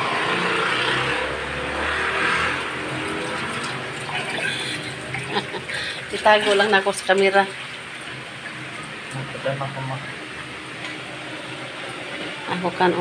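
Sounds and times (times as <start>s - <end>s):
soup boiling hard: 0.0s - 12.4s.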